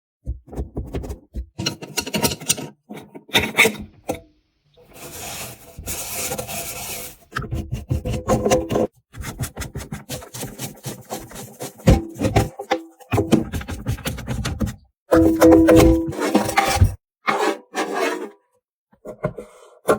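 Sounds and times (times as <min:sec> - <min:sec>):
scraping and rubbing: 0:00.3 - 0:04.0, 0:04.8 - 0:18.4.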